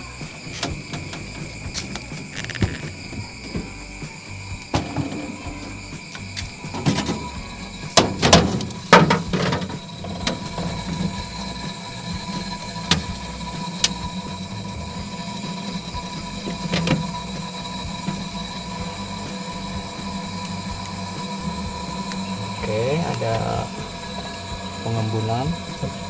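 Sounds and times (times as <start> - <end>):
refrigerator compressor humming: 0.0 - 26.0.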